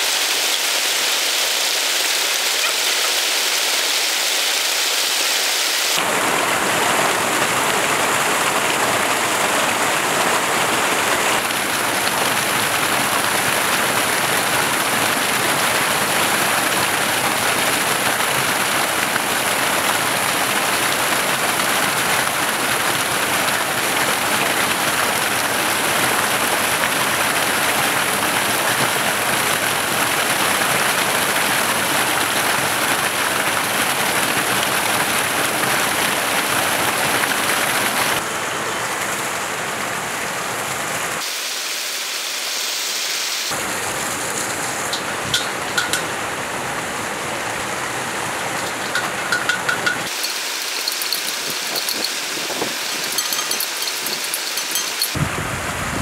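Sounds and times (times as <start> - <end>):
stream water rushing: 0.0 - 41.6, 43.5 - 55.7.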